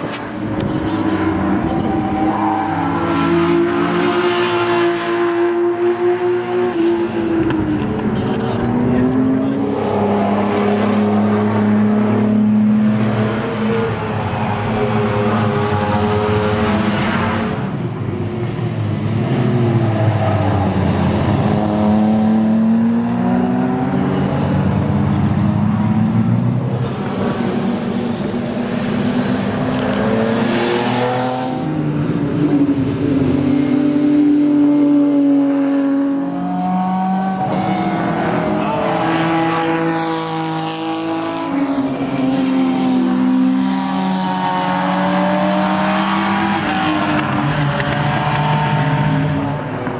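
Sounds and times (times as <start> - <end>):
racing car engine revving: 0.0 - 49.9.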